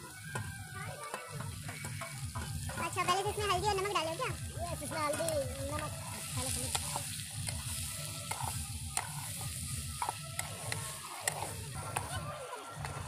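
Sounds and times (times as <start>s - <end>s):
fish sizzling in oil: 0.0s - 13.0s
metal spatula scraping pan: 0.4s - 4.2s, 5.0s - 13.0s.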